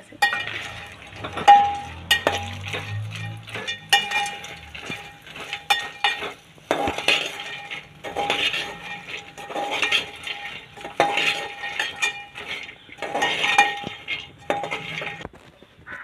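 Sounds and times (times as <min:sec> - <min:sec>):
ladle scraping a metal pot: 0:00.0 - 0:15.3.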